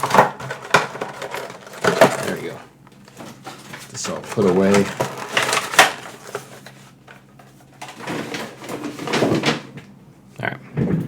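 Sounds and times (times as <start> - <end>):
packaging rustling and shuffling: 0.0 - 9.8.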